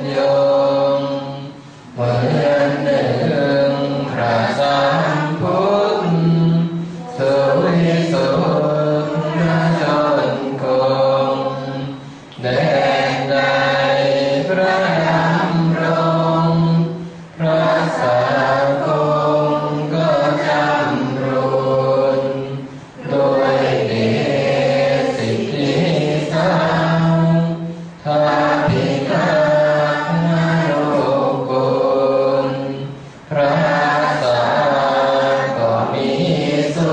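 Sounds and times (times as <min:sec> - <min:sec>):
group chanting in unison: 0:00.0 - 0:36.9.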